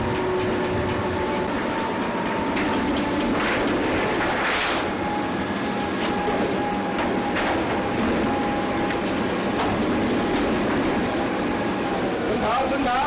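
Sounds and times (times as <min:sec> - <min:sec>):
faint constant whine: 0:00.0 - 0:13.0
steady mechanical noise: 0:00.0 - 0:13.0.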